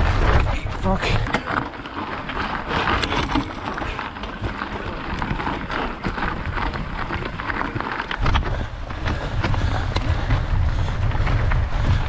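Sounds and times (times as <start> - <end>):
bike clicks and rattles: 0.0 - 12.0
tyre and wind noise: 0.0 - 12.0.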